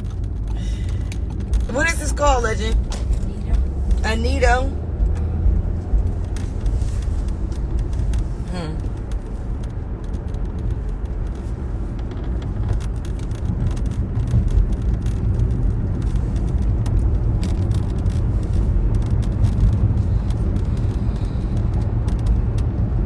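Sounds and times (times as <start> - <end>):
car road rumble from inside: 0.0 - 23.0
light clicks and taps: 0.0 - 23.0.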